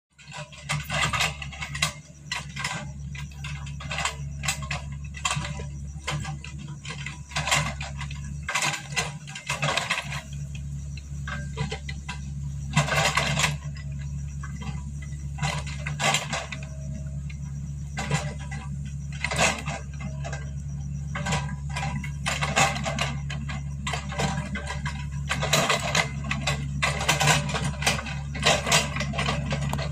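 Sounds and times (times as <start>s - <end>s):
excavator engine running: 0.1s - 29.9s
metallic clanks and knocks: 0.2s - 29.9s.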